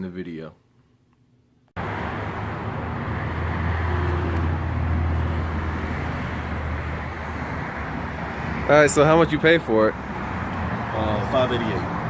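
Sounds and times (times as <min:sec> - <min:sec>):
low traffic rumble: 0:01.8 - 0:12.0.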